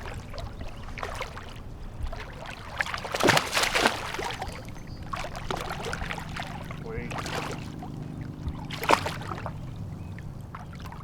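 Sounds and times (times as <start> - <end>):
boat low rumble: 0.0 - 11.0
fish splashing and thrashing: 0.0 - 11.0.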